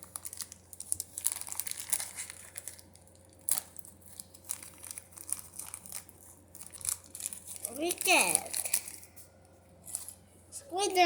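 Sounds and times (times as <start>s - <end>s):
packaging crinkling: 0.0s - 10.2s.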